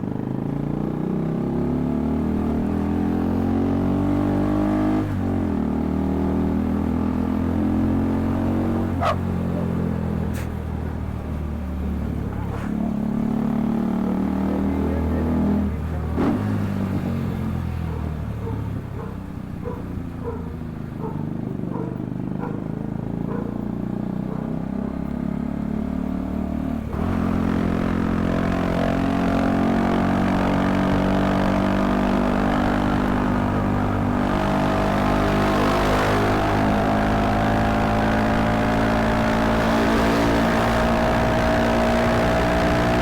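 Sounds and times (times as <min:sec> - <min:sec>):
vehicle engine running: 0:05.1 - 0:43.0.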